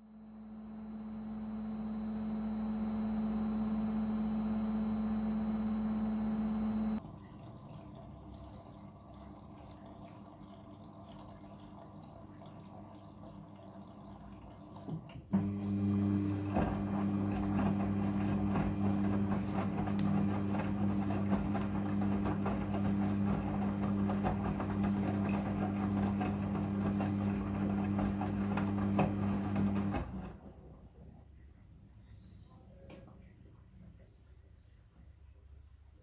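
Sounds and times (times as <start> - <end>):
washing machine humming: 0.0 - 31.0.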